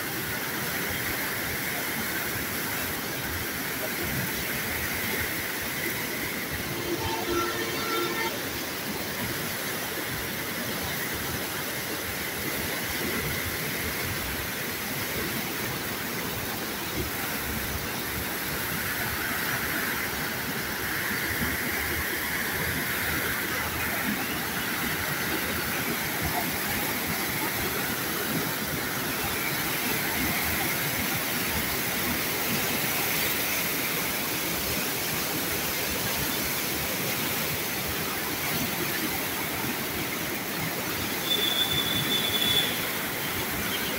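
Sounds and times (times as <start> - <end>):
whitewater rushing through channel: 0.0 - 43.9.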